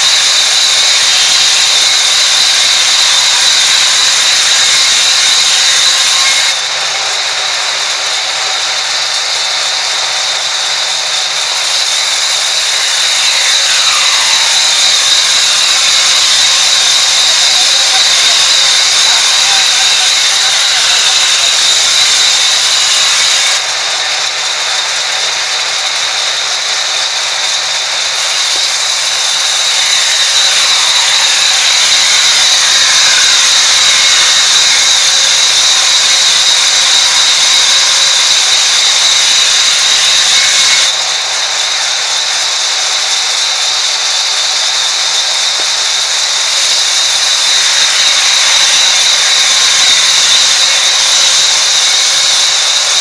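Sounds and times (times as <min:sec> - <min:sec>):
band saw cutting log: 0:00.0 - 0:53.0.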